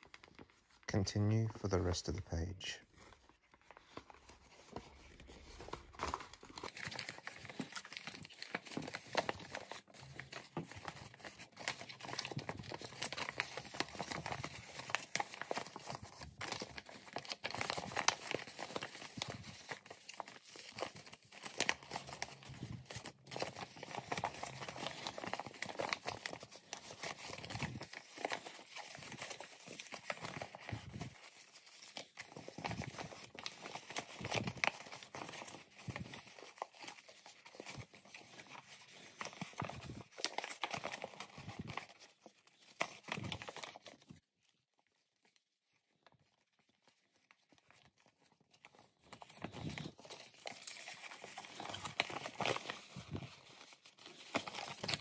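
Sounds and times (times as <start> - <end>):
paper rustling and crinkling: 0.0 - 55.0.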